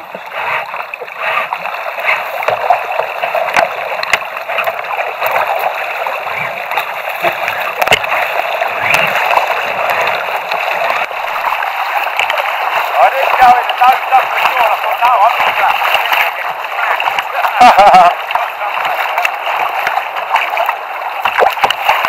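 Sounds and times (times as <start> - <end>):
water splashing against kayak hull: 0.0 - 22.0.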